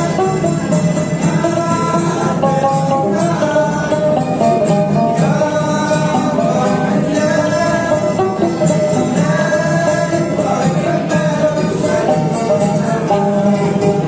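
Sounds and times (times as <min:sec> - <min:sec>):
acoustic guitar accompaniment: 0:00.0 - 0:14.0
mandolin picking: 0:00.0 - 0:14.0.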